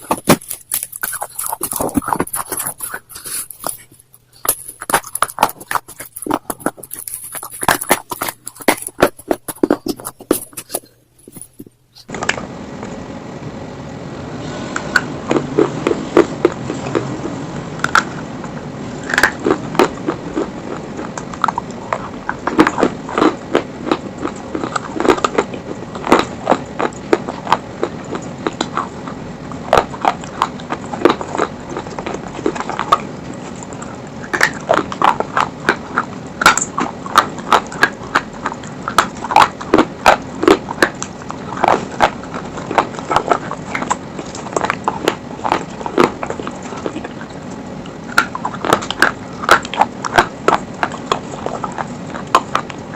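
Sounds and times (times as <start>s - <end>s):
crunching and chewing stone: 0.0s - 12.4s, 14.9s - 52.9s.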